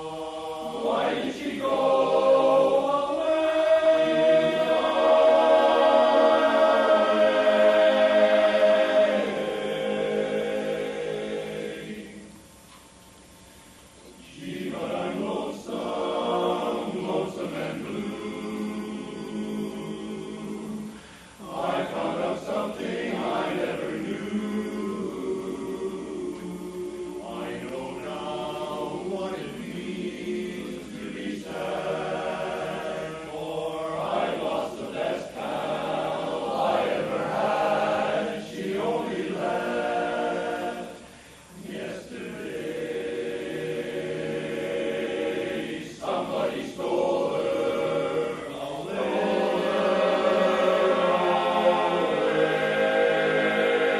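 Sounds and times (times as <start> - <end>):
men's chorus singing a cappella: 0.0 - 12.4, 14.2 - 53.9.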